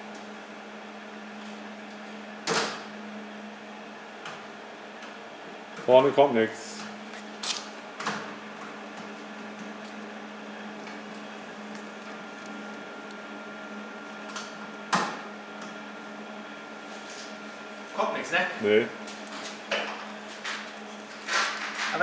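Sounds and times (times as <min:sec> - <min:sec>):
welder wire feed motor hum: 0:00.0 - 0:18.0.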